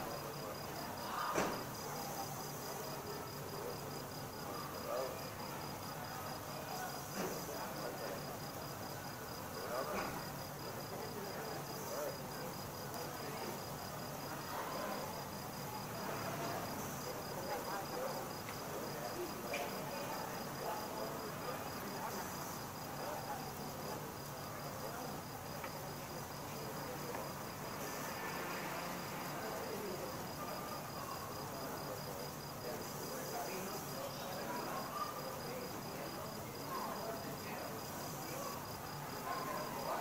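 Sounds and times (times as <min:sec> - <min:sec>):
crickets chirping: 0:00.0 - 0:40.0
soft background murmur: 0:00.0 - 0:40.0.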